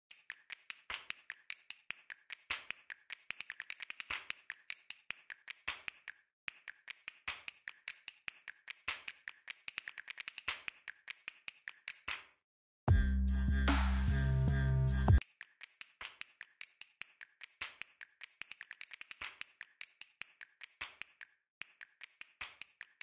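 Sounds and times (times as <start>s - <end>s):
rapid sharp clicks and taps: 0.1s - 12.2s, 15.2s - 23.0s.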